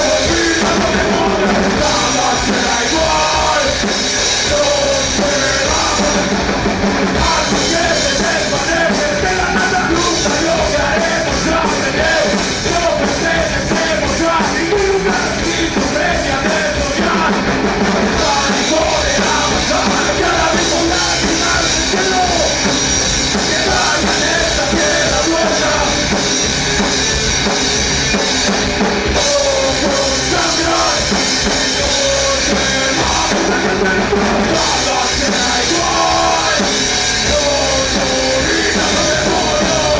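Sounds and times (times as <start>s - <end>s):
bass guitar: 0.0s - 39.9s
distorted electric guitars: 0.0s - 39.9s
loud drum kit: 0.0s - 39.9s.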